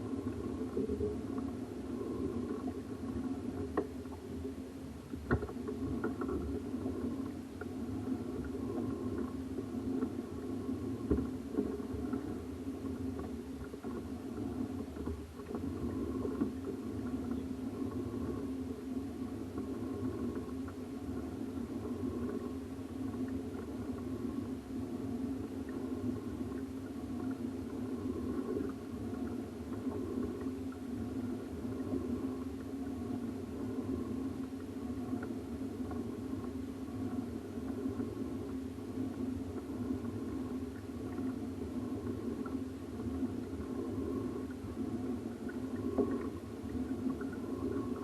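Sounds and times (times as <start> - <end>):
motor hum: 0.0 - 48.0.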